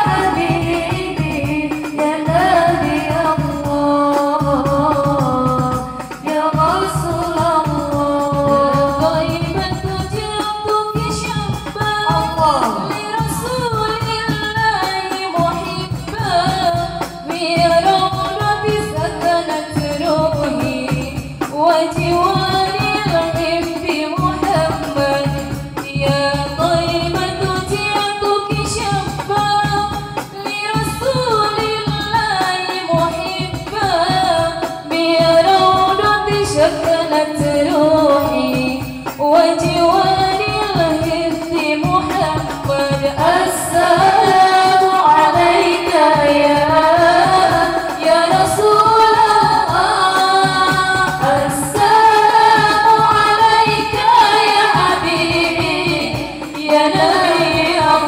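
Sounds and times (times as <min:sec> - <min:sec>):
woman singing into microphone: 0:00.0 - 0:58.0.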